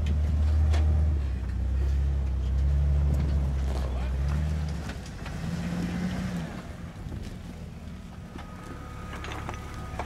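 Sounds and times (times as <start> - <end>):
engine running at low speed: 0.0 - 10.0.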